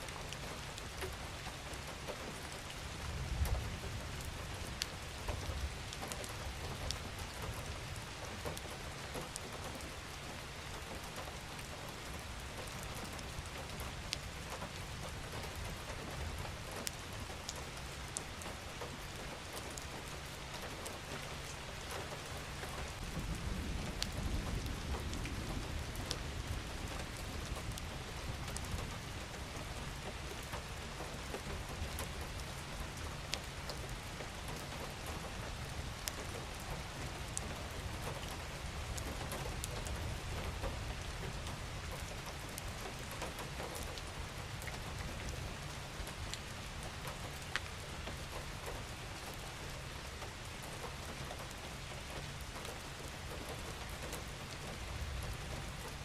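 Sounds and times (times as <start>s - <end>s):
rain falling: 0.0s - 56.0s
raindrops ticking: 0.1s - 56.0s.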